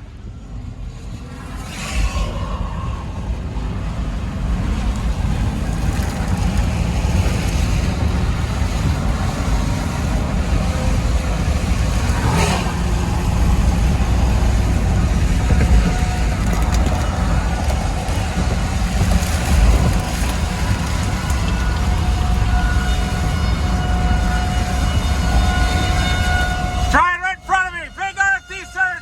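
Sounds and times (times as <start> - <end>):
storm wind buffeting microphone: 0.0 - 27.0.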